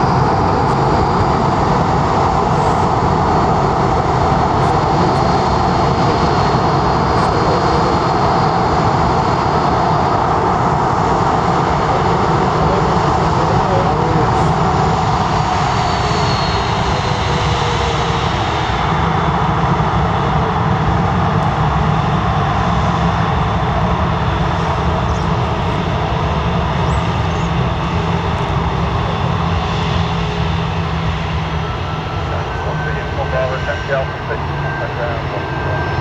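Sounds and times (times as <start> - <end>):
jet engines passing: 0.0 - 36.0.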